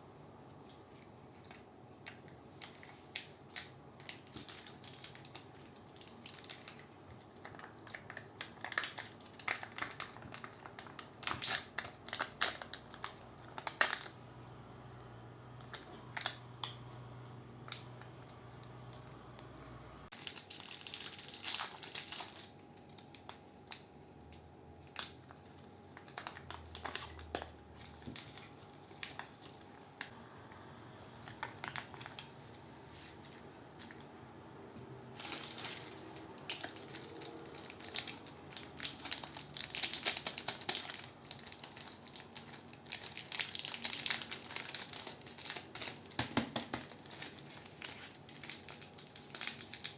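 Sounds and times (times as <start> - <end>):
plastic wrappers crinkling: 0.6 - 14.3, 15.6 - 19.2, 20.1 - 30.2, 31.2 - 34.1, 35.1 - 49.9.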